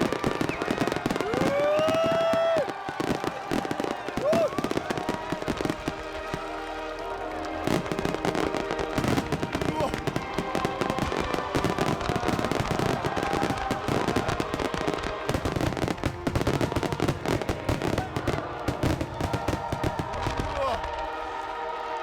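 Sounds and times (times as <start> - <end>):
fireworks bursting and crackling: 0.0 - 22.0
show music: 0.0 - 22.0.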